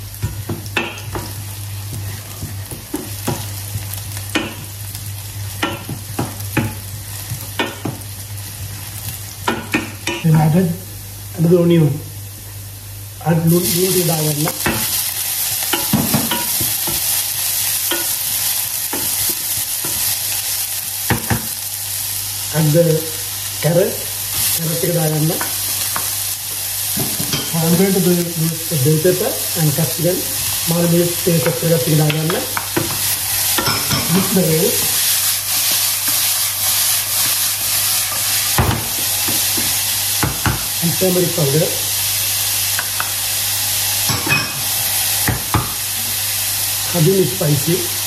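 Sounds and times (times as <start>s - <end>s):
vegetables sizzling in oil: 0.0s - 48.0s.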